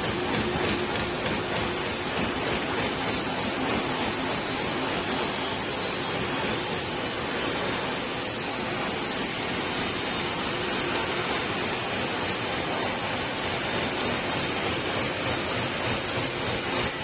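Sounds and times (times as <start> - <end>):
machine whirring: 0.0 - 17.0
plastic film hissing through rollers: 0.0 - 17.0.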